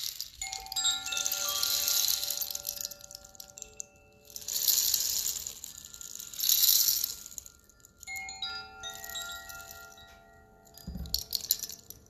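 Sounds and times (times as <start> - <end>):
bamboo chimes rattling: 0.0 - 12.0
bamboo chimes ringing notes: 0.0 - 12.0.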